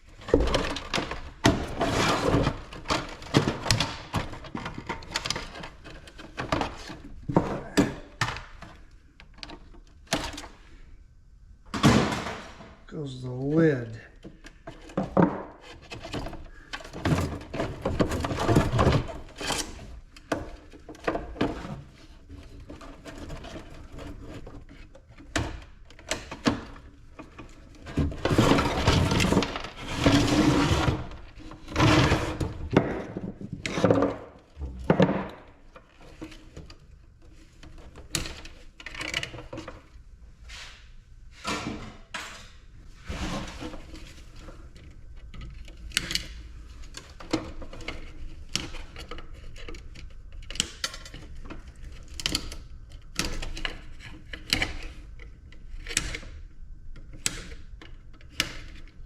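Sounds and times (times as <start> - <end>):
plastic and metal parts clattering: 0.1 - 10.6, 14.1 - 40.0, 41.4 - 59.0.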